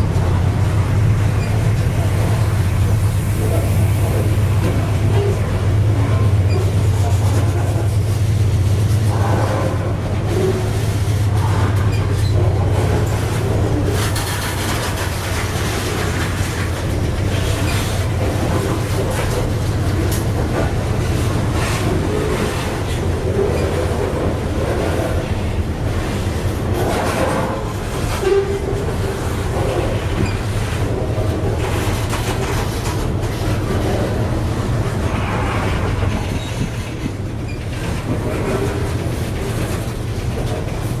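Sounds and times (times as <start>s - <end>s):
freight train rumbling past: 0.0s - 41.0s
locomotive engine drone: 0.0s - 41.0s
rattling rolling noise: 0.0s - 41.0s
wheels clicking over rail joints: 0.0s - 41.0s.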